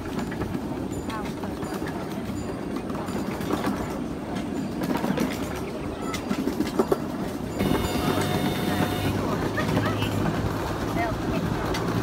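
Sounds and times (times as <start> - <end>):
miniature train rumbling: 0.0 - 12.0
wheels clicking over rail joints: 0.0 - 12.0.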